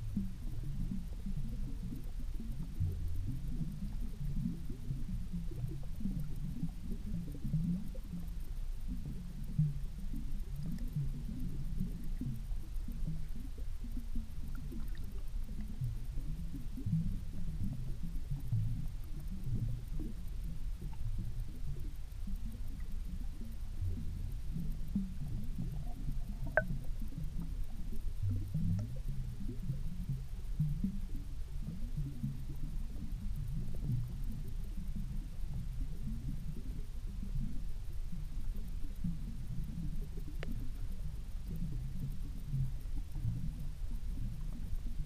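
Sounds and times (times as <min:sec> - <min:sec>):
low underwater rumbling: 0:00.0 - 0:45.0
steady deep hum: 0:00.0 - 0:45.0.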